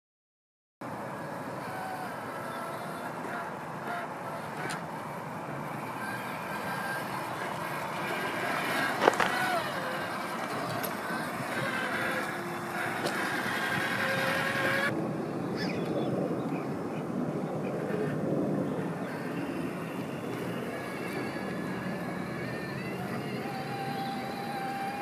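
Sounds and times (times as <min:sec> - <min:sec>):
toy car motor whining: 0:01.1 - 0:15.0, 0:17.7 - 0:25.0.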